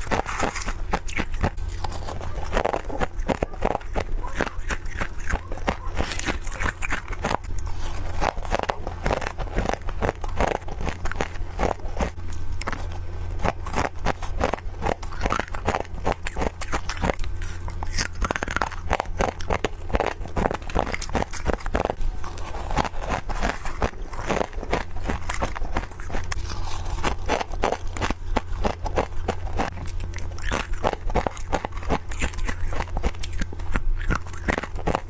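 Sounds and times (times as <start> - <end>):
frost being crunched and chewed: 0.0 - 35.0.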